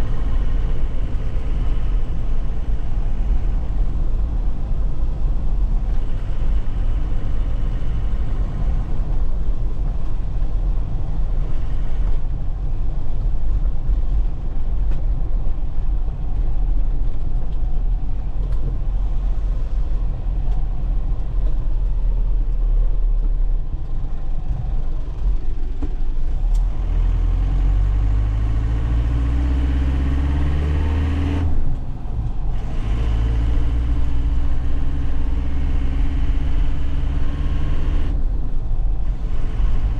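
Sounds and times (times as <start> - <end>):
road noise: 0.0 - 39.9
truck diesel engine: 0.0 - 39.9.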